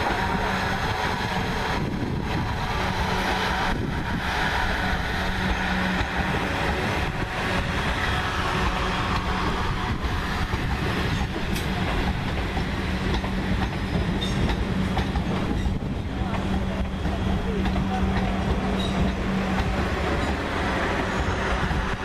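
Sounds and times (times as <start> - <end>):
low train hum: 0.0 - 22.0
train wheels rumbling on rails: 0.0 - 22.0.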